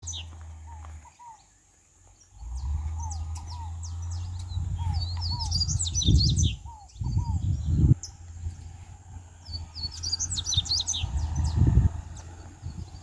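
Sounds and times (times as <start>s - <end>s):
bird twittering chirps: 0.0s - 13.0s
low rumble: 2.5s - 13.0s.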